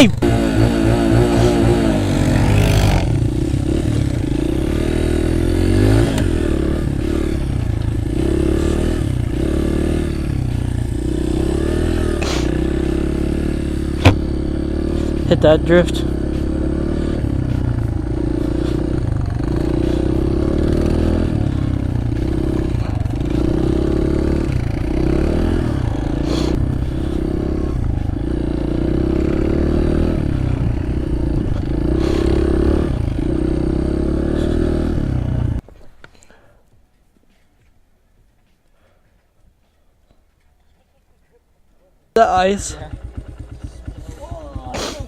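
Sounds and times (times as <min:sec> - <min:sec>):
dirt bike engine revving: 0:00.0 - 0:35.6, 0:42.2 - 0:45.0.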